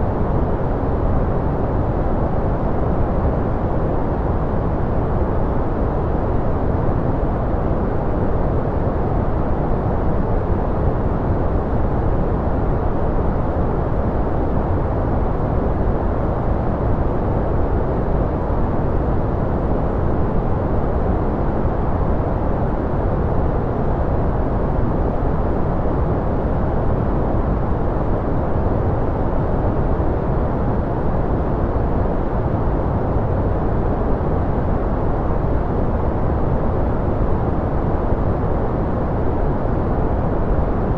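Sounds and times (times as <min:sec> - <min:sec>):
deep white noise: 0:00.0 - 0:40.9.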